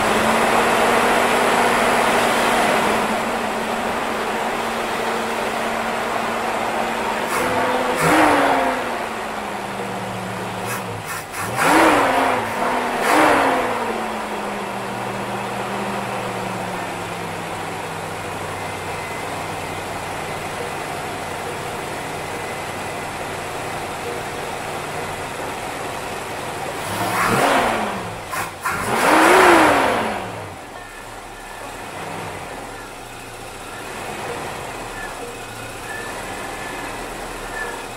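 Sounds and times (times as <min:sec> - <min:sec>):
car engine idling: 0:00.0 - 0:37.9
car engine revving: 0:00.0 - 0:37.9.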